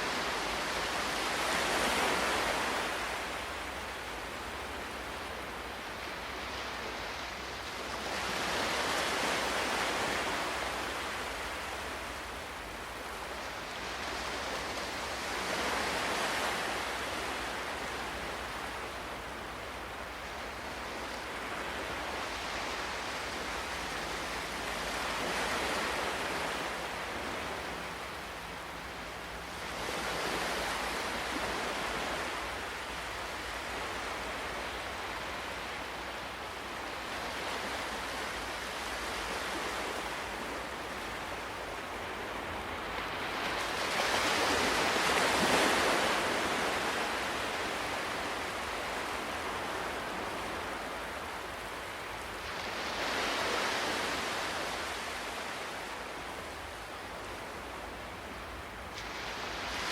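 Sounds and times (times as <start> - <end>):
ocean waves surf hiss: 0.0 - 59.9.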